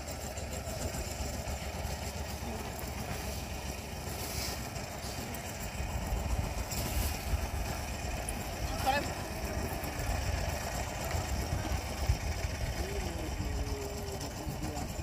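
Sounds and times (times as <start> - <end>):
steady low rumble: 2.4 - 15.0.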